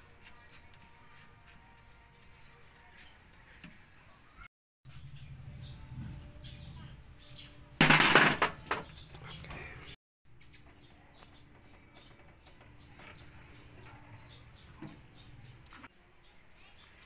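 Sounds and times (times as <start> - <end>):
faint birds chirping: 0.0 - 7.8, 8.6 - 17.0.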